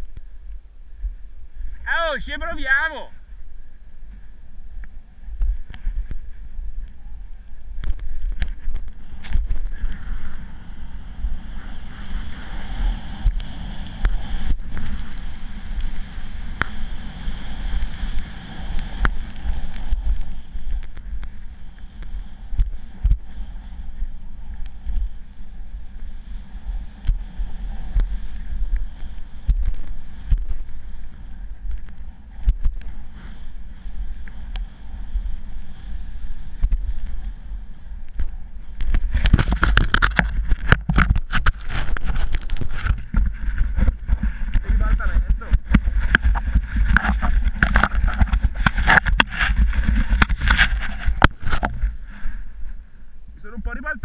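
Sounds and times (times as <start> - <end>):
wind buffeting camera: 0.0 - 54.0
skis sliding on snow: 4.0 - 52.8.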